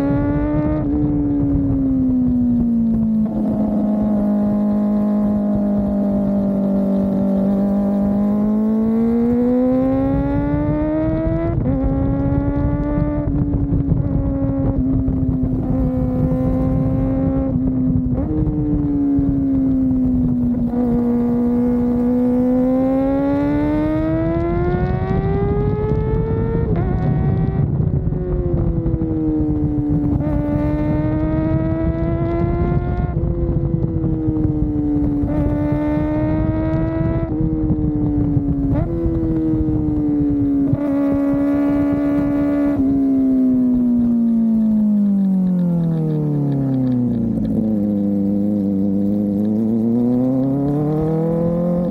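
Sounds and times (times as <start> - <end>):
motorcycle engine revving with gear changes: 0.0 - 51.9.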